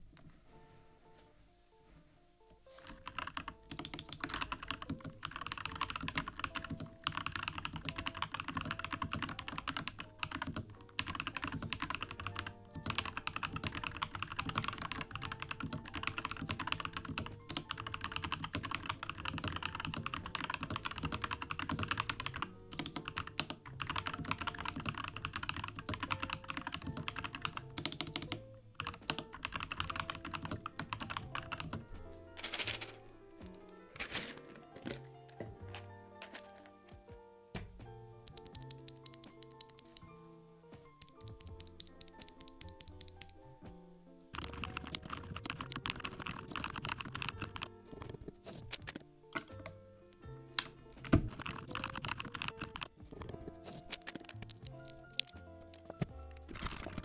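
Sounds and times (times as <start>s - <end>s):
fast typing on mechanical keyboard: 2.7s - 33.0s, 38.2s - 40.1s, 41.0s - 43.4s, 44.4s - 49.7s, 50.6s - 57.0s.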